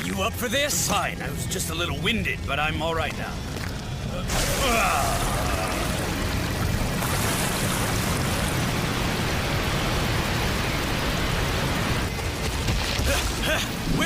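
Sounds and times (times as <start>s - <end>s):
rushing noise with low rumble: 0.0s - 14.0s.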